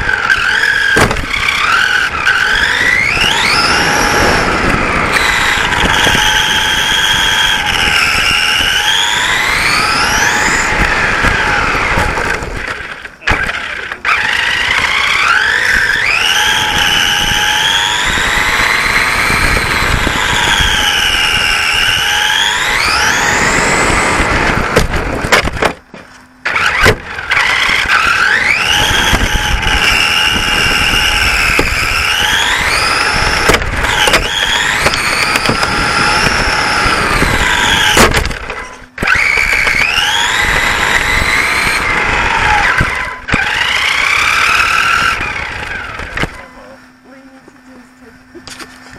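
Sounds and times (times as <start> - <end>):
toy car motor whining: 0.0 - 24.8, 26.4 - 47.2
tyre and road noise: 0.0 - 48.9.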